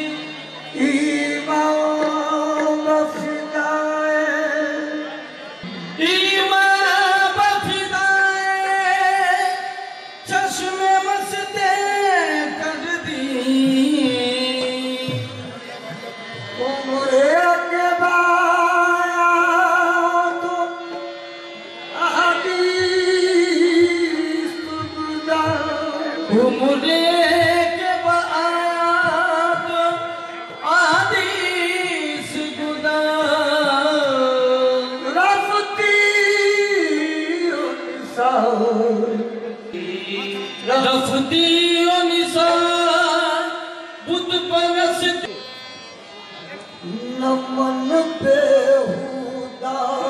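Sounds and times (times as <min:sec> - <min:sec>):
harmonium held notes: 0:00.0 - 0:50.0
man singing with vibrato: 0:00.0 - 0:50.0.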